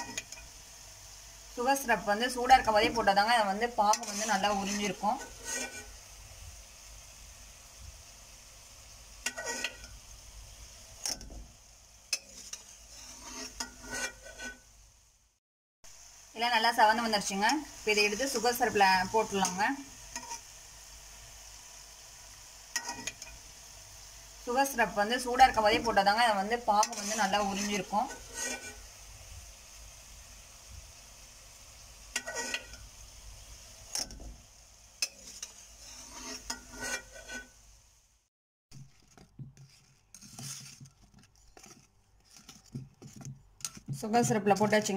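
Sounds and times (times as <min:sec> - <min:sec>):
faint steady hiss: 0:00.0 - 0:38.3
faint steady sizzle: 0:00.0 - 0:44.9.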